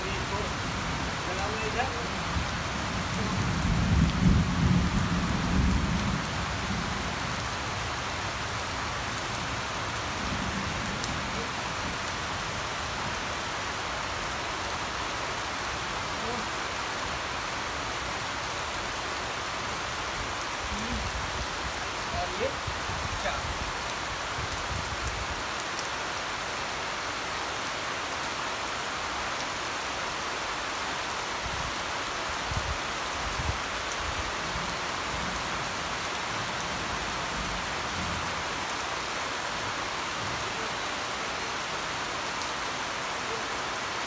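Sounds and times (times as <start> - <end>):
steady rain on wet ground: 0.0 - 44.0.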